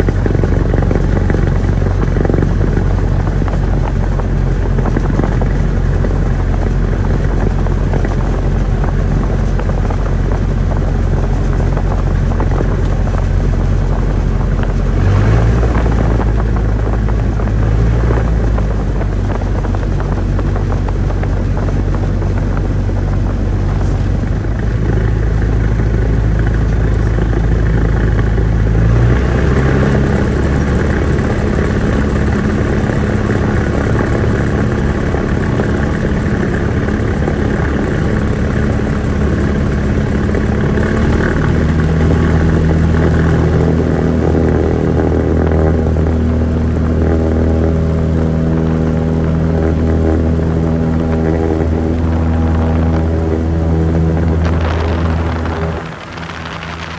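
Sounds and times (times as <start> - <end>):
propeller plane engine running: 0.0 - 56.9.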